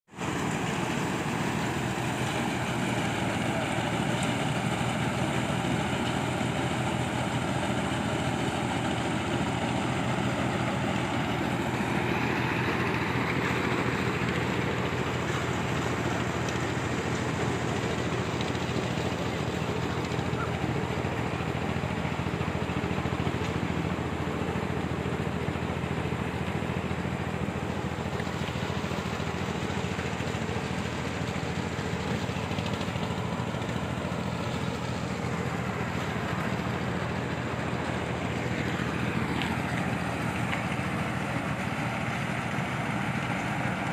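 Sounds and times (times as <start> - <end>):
combine harvester running: 0.1 - 43.9.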